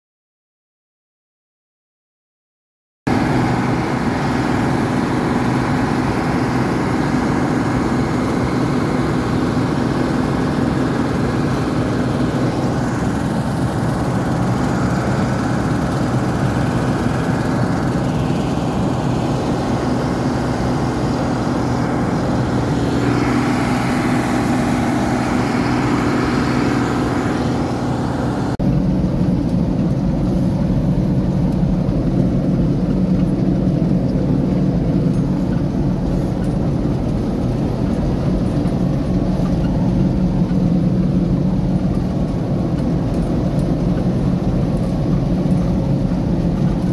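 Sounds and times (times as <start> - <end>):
combine harvester droning: 3.1 - 46.9.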